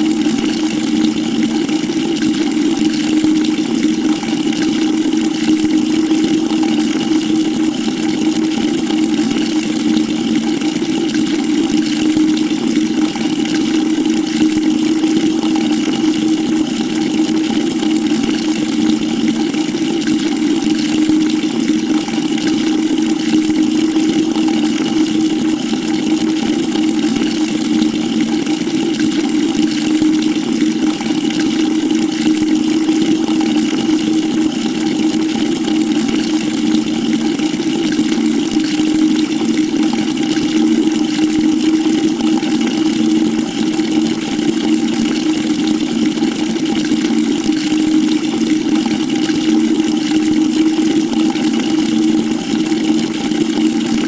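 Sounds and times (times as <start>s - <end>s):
water running into a bucket: 0.0s - 54.0s.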